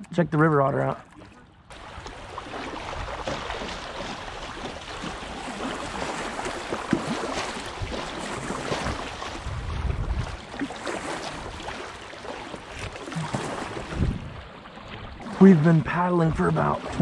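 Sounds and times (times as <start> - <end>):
river water rushing and splashing: 1.2 - 17.0.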